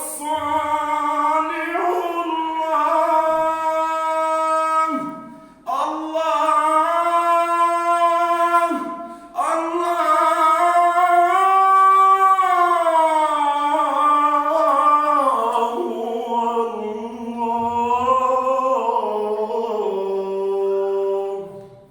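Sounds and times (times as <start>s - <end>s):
person singing devotional chant: 0.0s - 21.9s.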